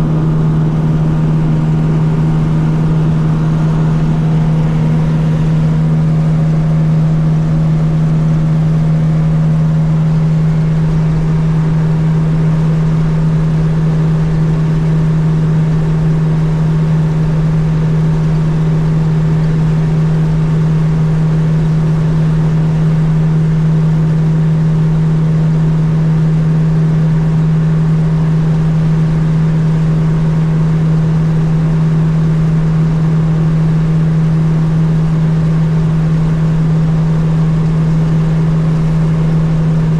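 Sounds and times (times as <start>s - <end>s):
car engine drone: 0.0s - 39.9s.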